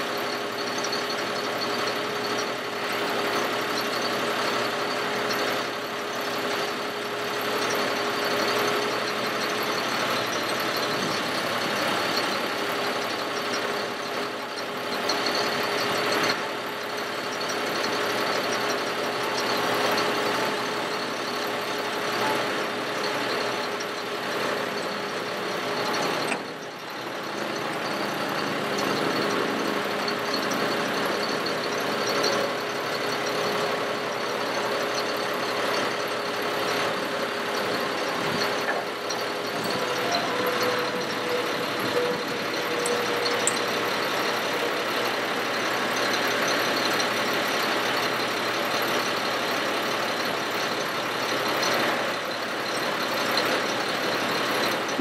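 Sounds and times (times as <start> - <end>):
steady hydraulic tone: 0.0 - 55.0
truck engine running: 0.0 - 55.0.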